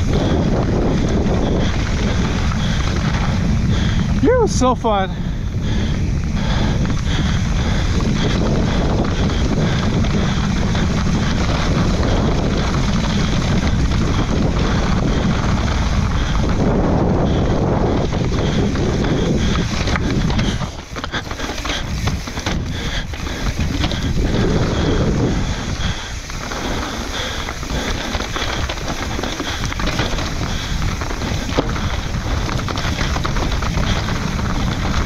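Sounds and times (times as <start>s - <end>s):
bike clattering over rough trail: 0.0s - 35.0s
rapid rattling and clicking: 0.0s - 35.0s
wind buffeting microphone: 0.0s - 35.0s.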